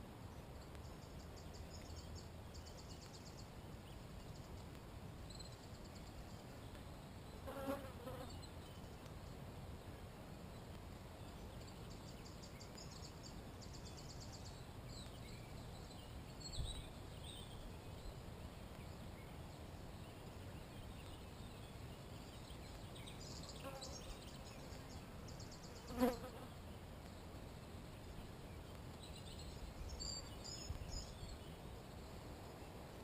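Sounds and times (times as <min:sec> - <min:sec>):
insects: 0:00.1 - 0:33.0
small birds chirping: 0:00.2 - 0:33.0.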